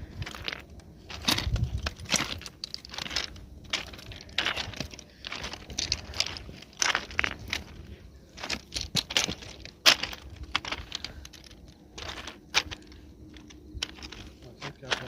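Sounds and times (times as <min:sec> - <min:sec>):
footsteps crunching on loose ground: 0:00.0 - 0:15.0.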